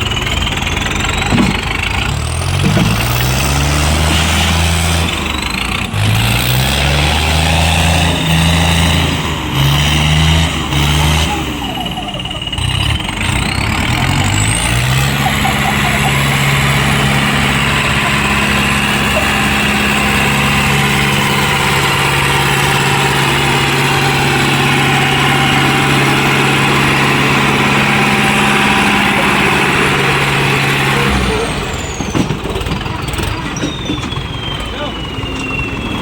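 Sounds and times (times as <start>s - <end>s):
diesel tractor engine revving: 0.0s - 36.0s.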